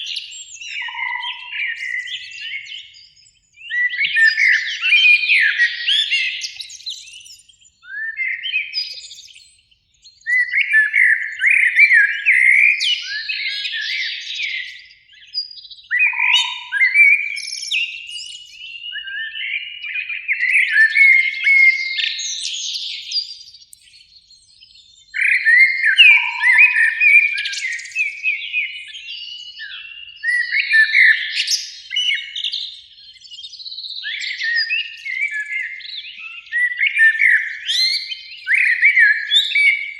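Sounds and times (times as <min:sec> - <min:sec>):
blackbird singing: 0:00.0 - 0:39.9.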